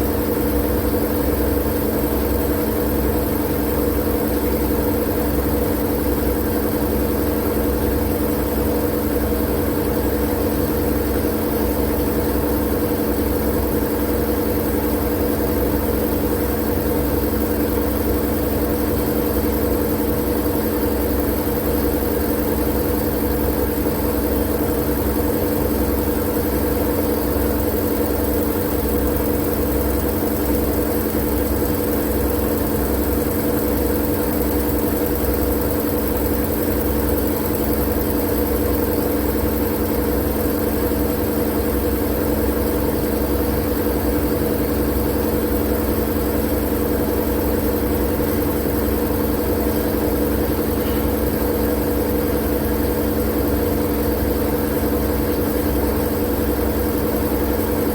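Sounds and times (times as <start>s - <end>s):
steady machine-like hum: 0.0s - 57.9s.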